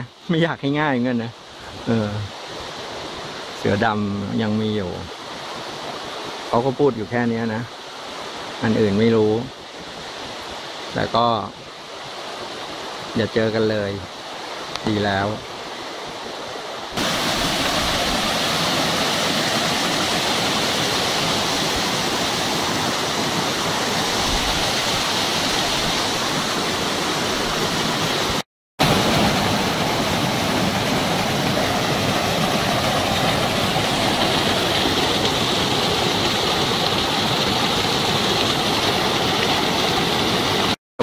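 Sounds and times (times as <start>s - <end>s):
waterfall rushing over boulders: 0.0s - 40.8s.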